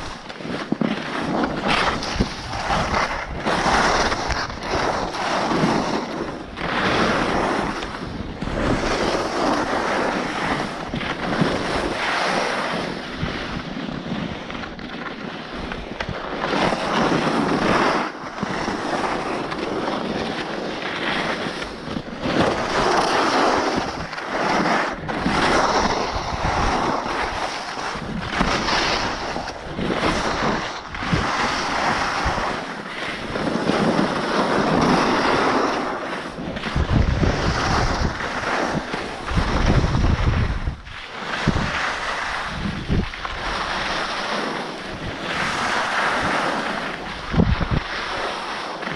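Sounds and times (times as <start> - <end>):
skis scraping over snow: 0.0 - 48.9
wind rushing over microphone: 0.0 - 48.9.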